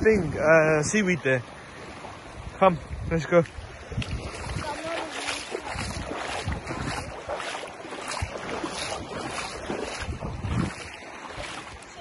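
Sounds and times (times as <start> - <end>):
small waves washing ashore: 0.0 - 12.0
wind gusting against microphone: 0.0 - 12.0.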